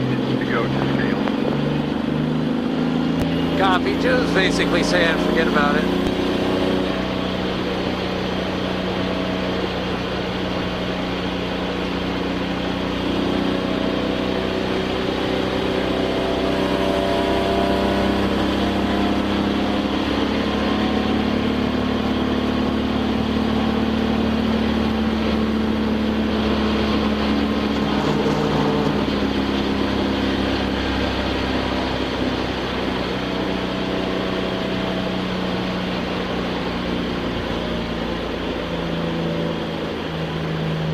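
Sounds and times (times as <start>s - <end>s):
car engine running at low speed: 0.0s - 40.9s.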